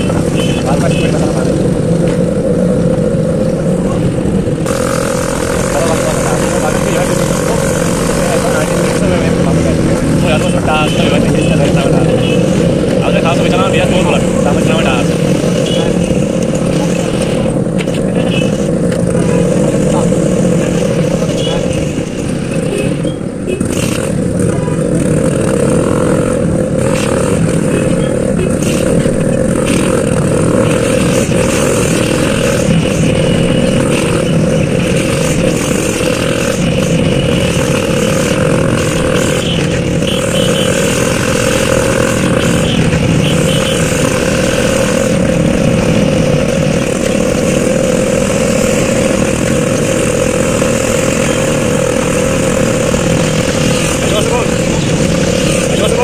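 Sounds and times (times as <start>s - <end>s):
road noise: 0.0s - 56.0s
scooter engine running: 0.0s - 56.0s.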